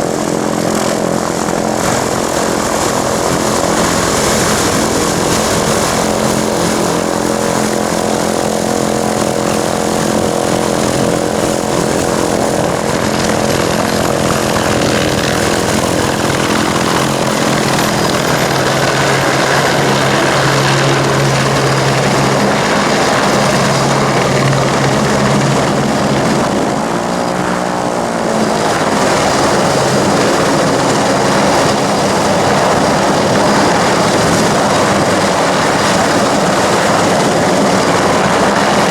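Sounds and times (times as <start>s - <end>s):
helicopter rotors and engines: 0.0s - 38.9s.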